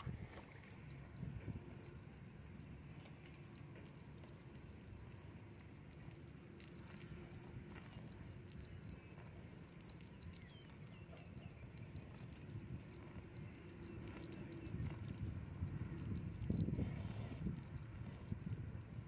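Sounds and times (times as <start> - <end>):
cow chewing grass: 0.0 - 19.0
low steady rumble: 0.0 - 19.0.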